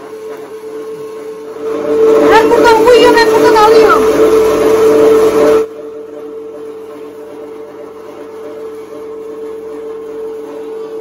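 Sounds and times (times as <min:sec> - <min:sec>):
electric meat grinder humming: 0:00.0 - 0:11.0.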